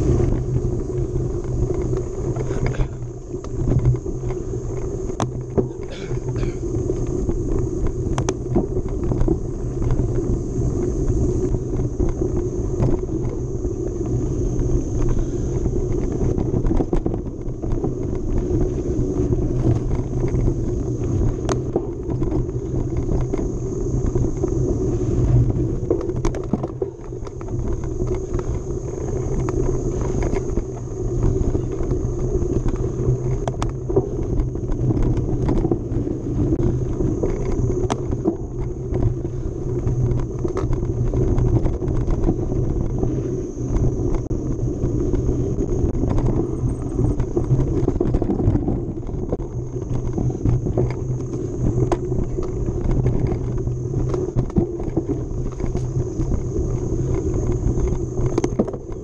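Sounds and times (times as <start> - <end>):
bike clicks and rattles: 0.0 - 59.0
tyres rumbling on dirt: 0.0 - 59.0.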